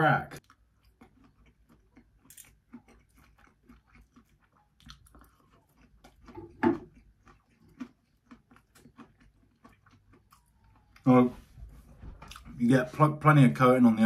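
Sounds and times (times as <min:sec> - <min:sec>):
chewing with mouth smacks: 0:00.4 - 0:12.6.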